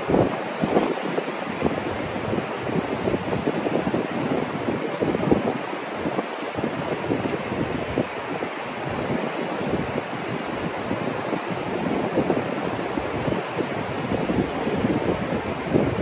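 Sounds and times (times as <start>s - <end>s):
surf washing on shore: 0.0s - 16.0s
wind gusts on microphone: 0.0s - 16.0s.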